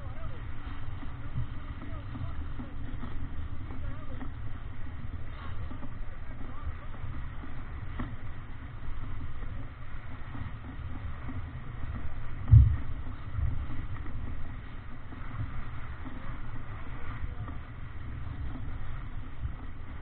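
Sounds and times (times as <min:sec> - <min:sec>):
water rushing along hull: 0:00.0 - 0:20.0
wind buffeting microphone: 0:00.0 - 0:20.0.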